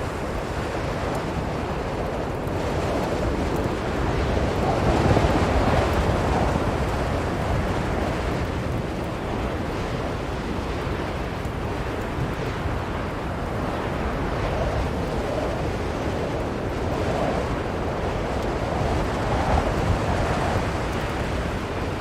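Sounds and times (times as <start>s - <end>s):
blizzard wind blowing: 0.0s - 22.0s.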